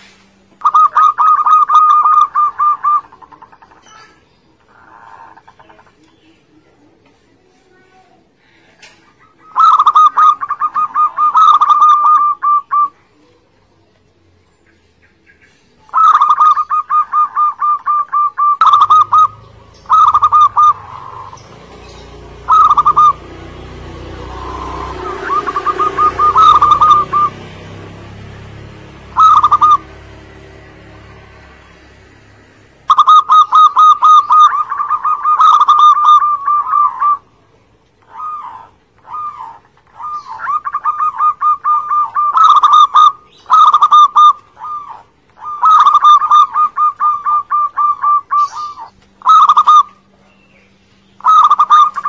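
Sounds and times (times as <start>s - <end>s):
dove cooing song: 0.5s - 52.0s.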